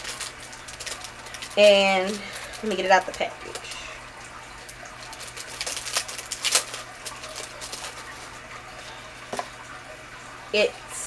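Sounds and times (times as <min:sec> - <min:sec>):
packaging crinkling and rustling: 0:00.0 - 0:09.7.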